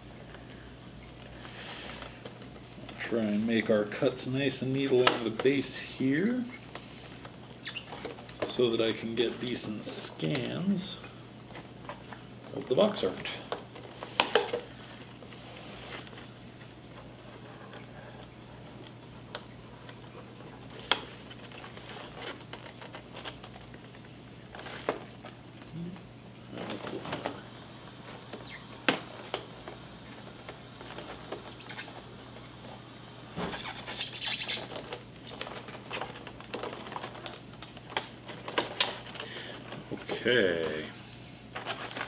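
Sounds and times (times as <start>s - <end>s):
faint steady hum: 0.0s - 42.0s
plastic packaging rustling: 0.2s - 32.7s, 33.4s - 42.0s.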